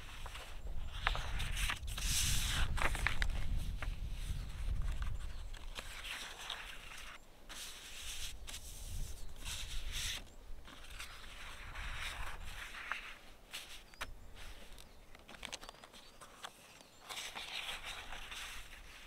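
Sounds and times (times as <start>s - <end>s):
paper rustling: 0.0s - 19.0s.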